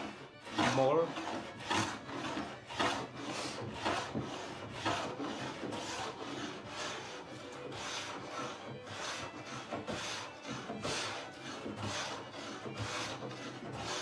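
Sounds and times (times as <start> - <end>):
hand tool rubbing on wood: 0.0 - 14.0.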